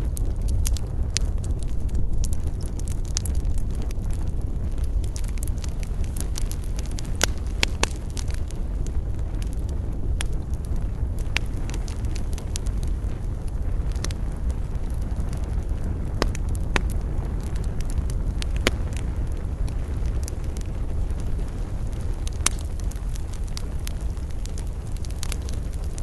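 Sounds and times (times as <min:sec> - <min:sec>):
campfire crackling and popping: 0:00.0 - 0:26.0
steady low rumble: 0:00.0 - 0:26.0.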